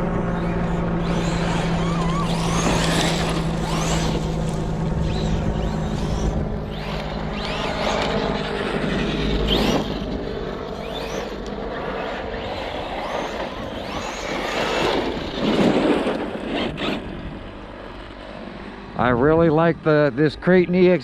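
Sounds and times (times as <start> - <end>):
rough rushing noise: 0.0 - 17.7
electric motor whining: 0.0 - 18.1.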